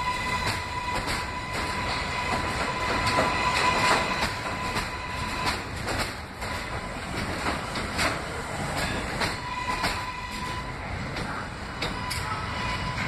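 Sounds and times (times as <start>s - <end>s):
subway train rolling past: 0.0s - 13.0s
wheels clacking over rail joints: 0.0s - 13.0s.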